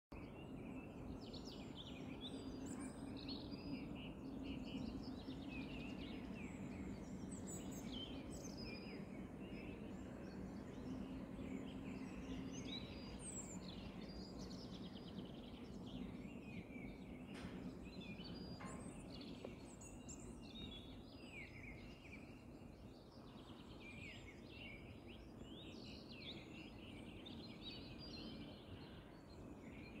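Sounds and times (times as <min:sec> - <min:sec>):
songbirds chirping and trilling: 0:00.1 - 0:30.0.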